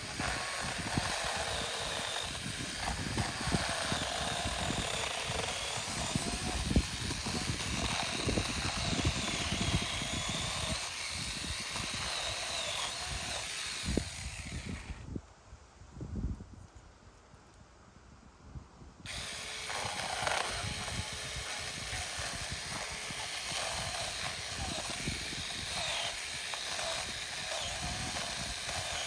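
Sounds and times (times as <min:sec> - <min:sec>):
chainsaw cutting wood: 0:00.0 - 0:15.1, 0:19.1 - 0:29.0.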